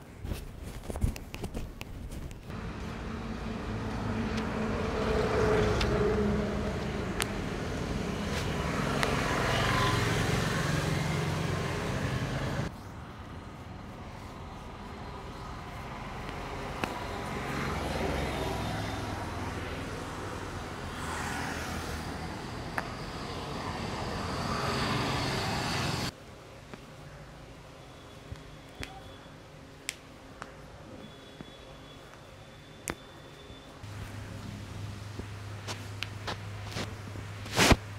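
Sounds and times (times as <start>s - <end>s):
roadside traffic: 0.0s - 37.9s.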